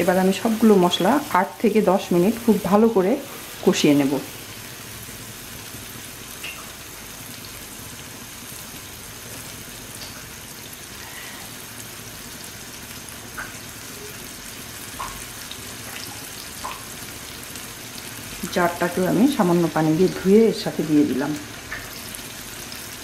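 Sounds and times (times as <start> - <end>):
paste sizzling in hot oil: 0.0 - 23.0.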